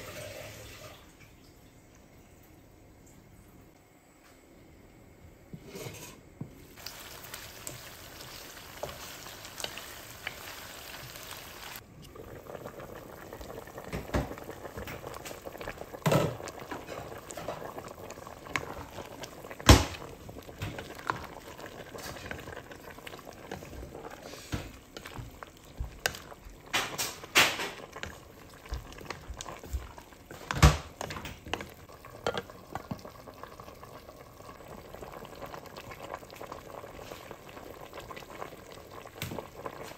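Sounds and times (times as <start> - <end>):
soup boiling in a pot: 0.0 - 1.2, 5.1 - 39.9.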